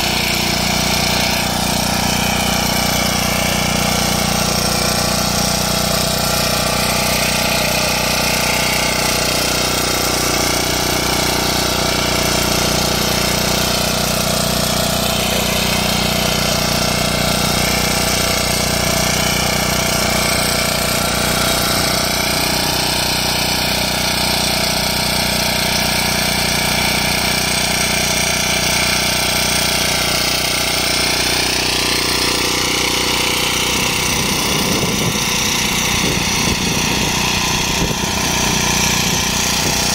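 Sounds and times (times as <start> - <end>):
power weeder engine running: 0.0 - 39.9.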